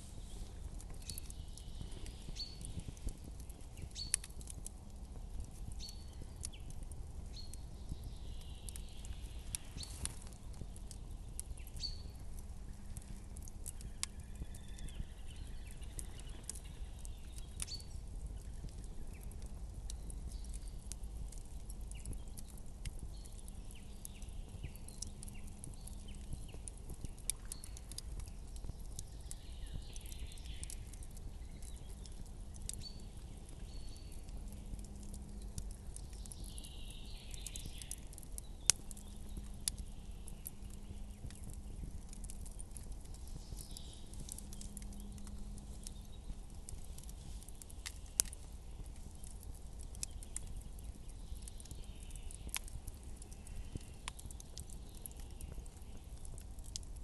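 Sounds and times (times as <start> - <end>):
campfire crackling and popping: 0.0 - 57.0
low steady rumble: 0.0 - 57.0.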